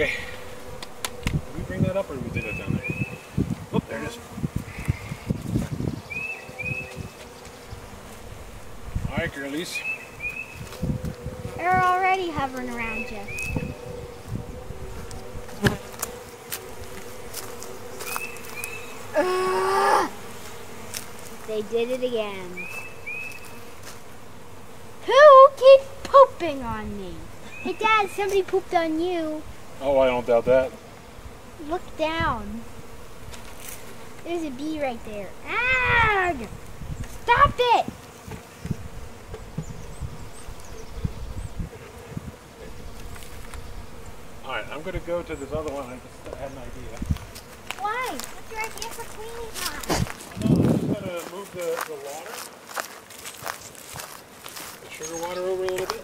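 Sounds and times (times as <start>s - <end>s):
bee buzzing loudly close by: 0.0s - 56.0s
honeybees buzzing: 0.0s - 56.0s.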